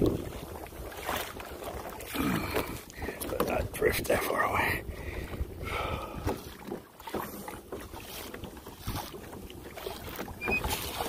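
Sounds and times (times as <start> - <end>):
water sloshing around kayak: 0.0 - 11.0
wind rumbling on microphone: 0.0 - 11.0.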